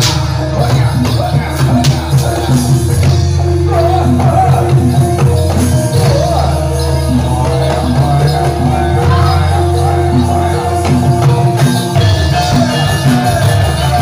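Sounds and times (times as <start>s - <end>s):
metallophone notes: 0.0s - 14.0s
percussion: 0.0s - 14.0s
wavering melody line: 0.6s - 14.0s.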